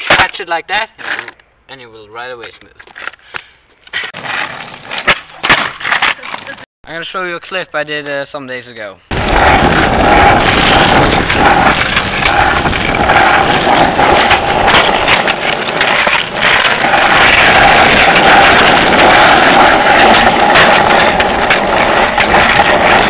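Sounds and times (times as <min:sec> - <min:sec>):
skateboard wheels rolling on asphalt: 0:00.0 - 0:06.6, 0:09.1 - 0:23.0.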